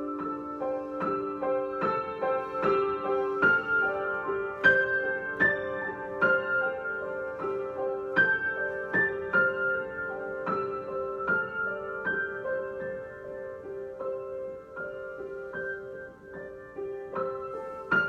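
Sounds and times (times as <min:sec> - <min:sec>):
solo piano melody: 0:00.0 - 0:18.0.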